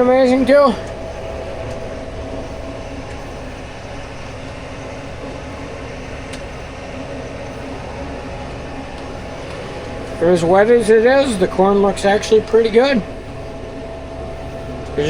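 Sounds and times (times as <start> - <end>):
faint steady hum: 0.0 - 15.0
tractor engine droning: 0.0 - 15.0.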